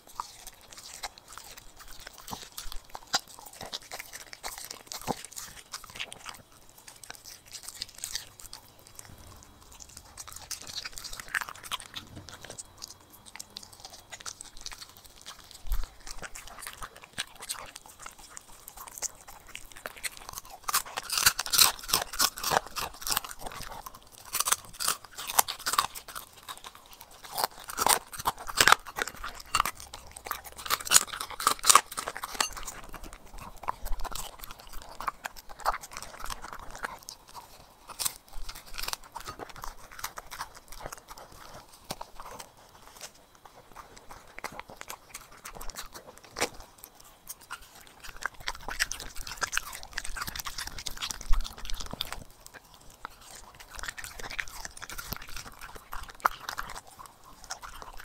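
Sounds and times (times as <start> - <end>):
dog crunching food: 0.0 - 58.0.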